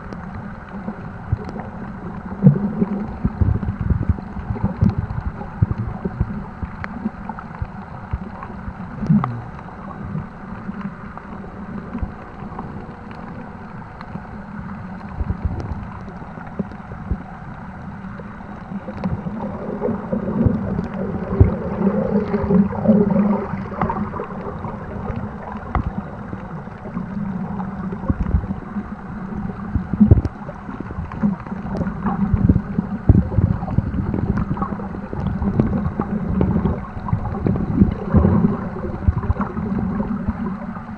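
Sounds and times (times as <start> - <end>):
underwater sloshing and gurgling: 0.0 - 40.9.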